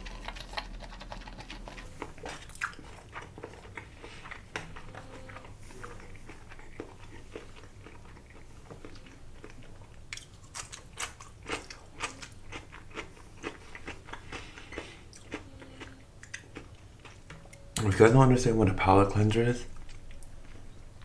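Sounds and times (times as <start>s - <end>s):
chewing with crisp crunches: 0.0s - 17.9s, 19.7s - 21.0s.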